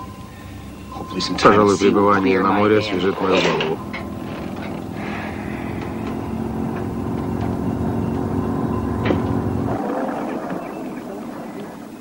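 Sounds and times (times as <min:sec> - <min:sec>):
speedboat engine drone: 0:00.0 - 0:12.0.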